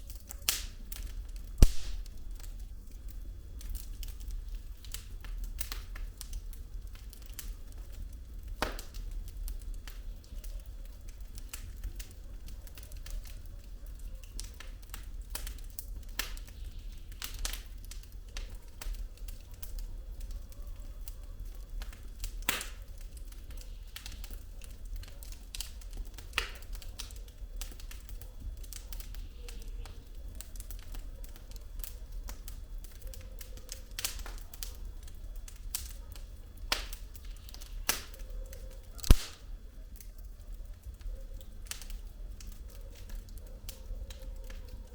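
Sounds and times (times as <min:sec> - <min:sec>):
firewood crackling and popping: 0:00.0 - 0:44.9.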